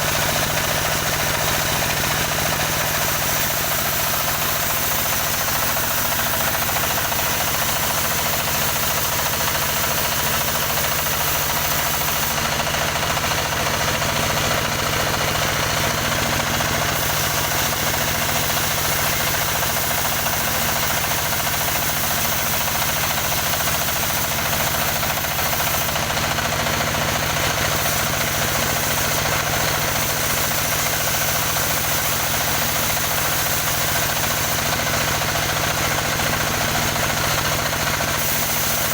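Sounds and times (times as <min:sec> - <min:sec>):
engine powering wood saw: 0:00.0 - 0:38.9.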